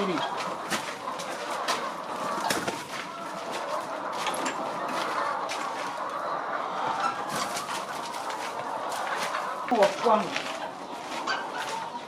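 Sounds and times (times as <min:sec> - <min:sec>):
chickens clucking and cheeping: 0:00.0 - 0:12.0.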